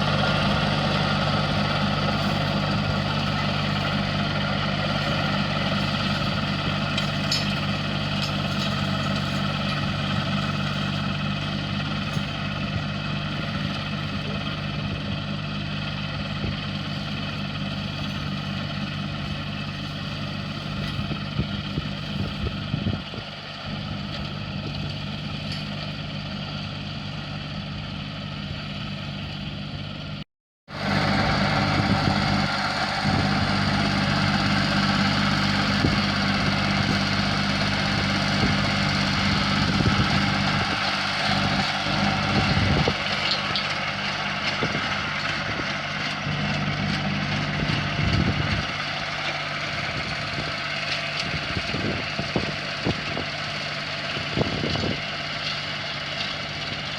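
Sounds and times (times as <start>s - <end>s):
engine idling: 0.0s - 56.9s.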